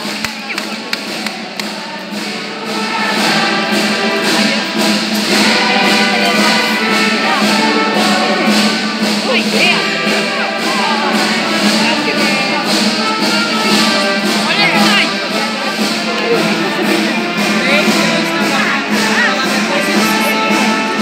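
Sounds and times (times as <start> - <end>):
voices singing march music: 0.0 - 21.0.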